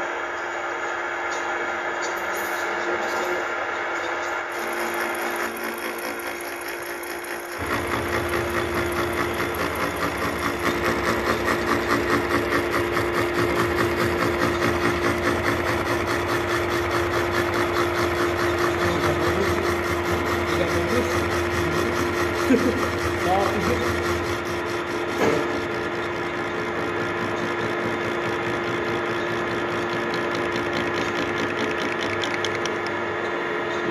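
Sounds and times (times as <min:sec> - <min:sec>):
milling machine hum: 0:00.0 - 0:33.9.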